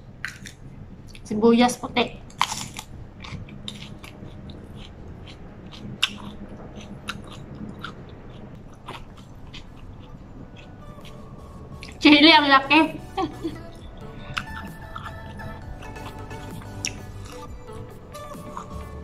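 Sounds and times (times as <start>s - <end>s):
person chewing food: 2.3s - 12.0s, 13.3s - 19.0s.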